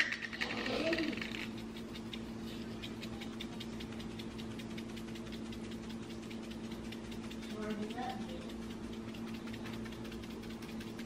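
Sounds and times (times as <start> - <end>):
seasoning shaker ticking: 0.0 - 11.0
steady low hum: 0.0 - 11.0.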